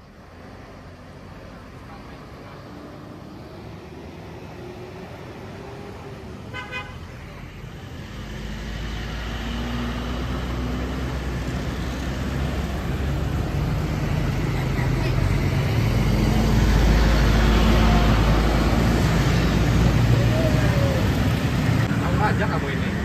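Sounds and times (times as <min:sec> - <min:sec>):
bus engine approaching: 0:00.0 - 0:23.0
road traffic: 0:00.0 - 0:23.0.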